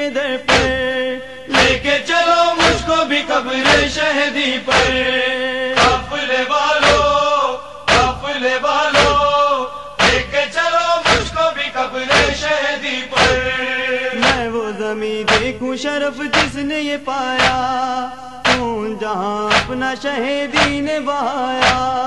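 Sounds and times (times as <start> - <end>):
lament chanted in held melody: 0.0 - 18.8
rhythmic chest-beating thuds: 0.0 - 22.0.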